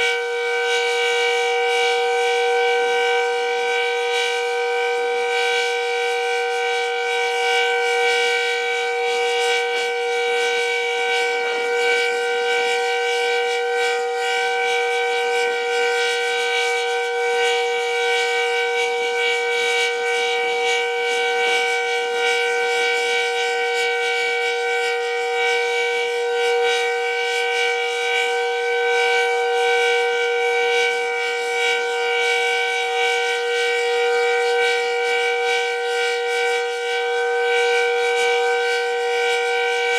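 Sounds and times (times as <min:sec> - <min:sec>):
steady warning siren: 0:00.0 - 0:39.9.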